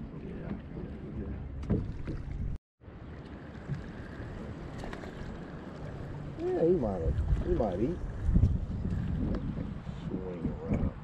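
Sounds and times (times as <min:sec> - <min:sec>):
water against boat hull: 0:00.0 - 0:11.0
wind on microphone: 0:00.0 - 0:11.0.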